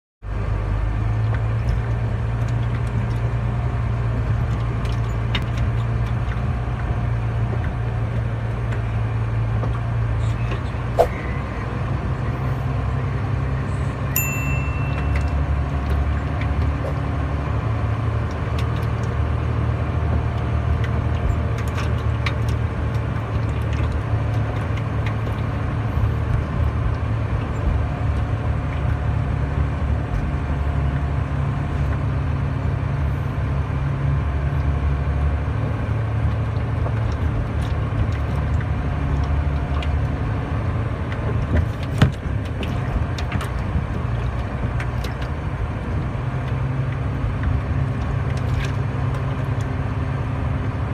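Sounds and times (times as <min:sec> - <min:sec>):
diesel truck engine running: 0:00.2 - 0:50.9.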